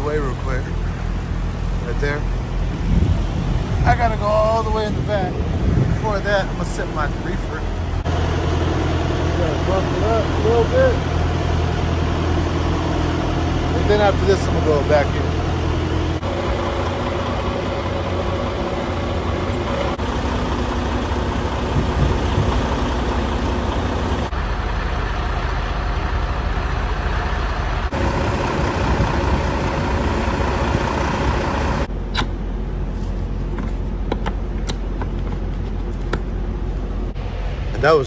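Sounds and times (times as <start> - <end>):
diesel truck idling: 0.0 - 38.0
refrigeration unit running: 0.0 - 38.0.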